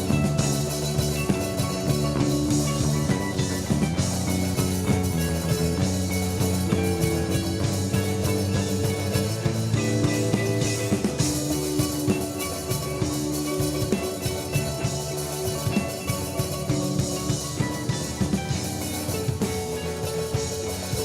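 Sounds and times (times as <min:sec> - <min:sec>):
bass guitar: 0:00.0 - 0:21.0
drum kit beat: 0:00.0 - 0:21.0
electric guitar: 0:00.0 - 0:21.0.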